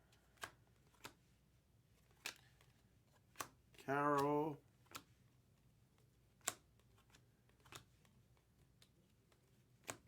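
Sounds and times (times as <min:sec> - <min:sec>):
cards flipped by hand clicking: 0:00.1 - 0:10.0.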